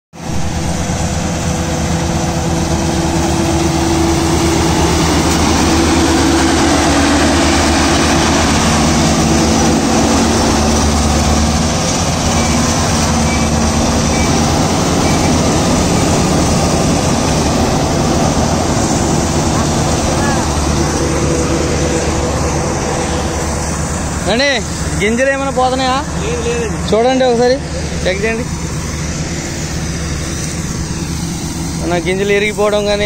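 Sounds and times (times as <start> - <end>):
combine harvester engine drone: 0.2 - 33.0
cutting and threshing machinery: 0.2 - 33.0.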